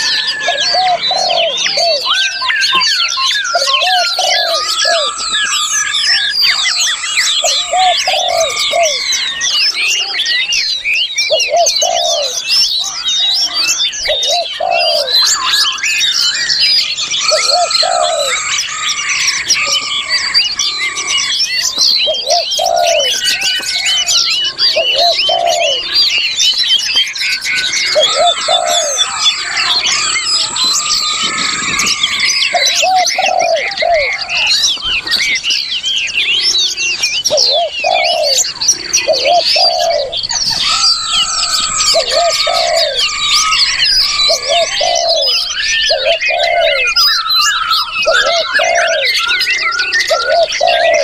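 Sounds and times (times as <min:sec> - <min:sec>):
low repeating bird call: 0:00.0 - 0:51.0
songbirds chirping and trilling: 0:00.0 - 0:51.0.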